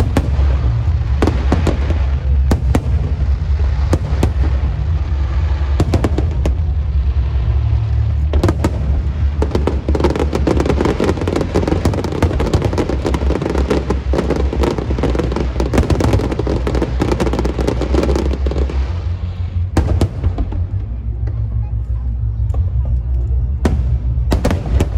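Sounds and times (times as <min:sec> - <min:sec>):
fireworks crackling bangs: 0:00.0 - 0:21.5, 0:23.6 - 0:24.9
low rumble: 0:00.0 - 0:24.9.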